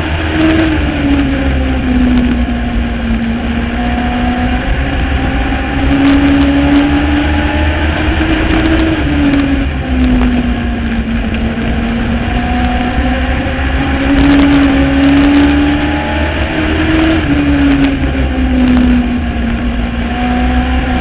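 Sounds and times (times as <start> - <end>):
race car engine: 0.0 - 21.0
steady low rumble: 0.0 - 21.0.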